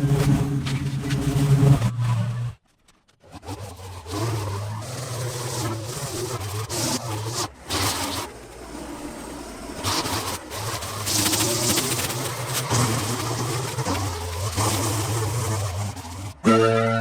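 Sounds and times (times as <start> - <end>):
small gas engine running: 0.0 - 17.0.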